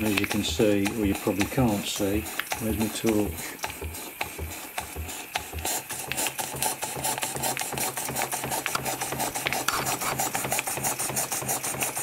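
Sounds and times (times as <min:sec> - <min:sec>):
mechanical clicking and knocking: 0:00.0 - 0:12.0
model steam engine running: 0:00.0 - 0:12.0
steam chuffing: 0:00.0 - 0:12.0.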